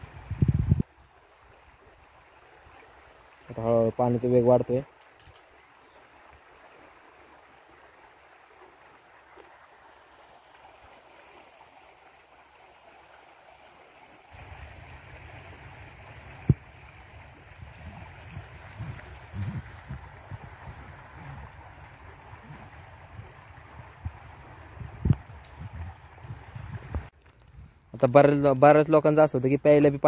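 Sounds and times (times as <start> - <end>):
water rushing down canal: 0.0 - 27.2.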